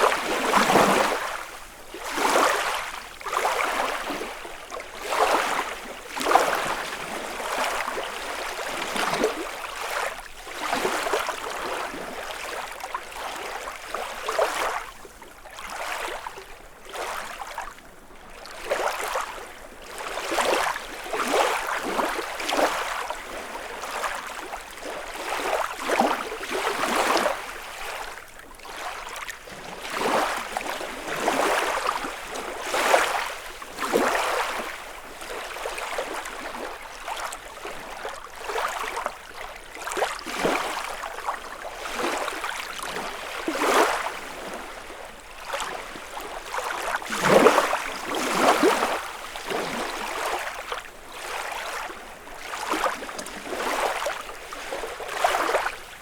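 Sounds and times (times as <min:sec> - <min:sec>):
lake waves lapping: 0:00.0 - 0:15.0, 0:15.6 - 0:56.0.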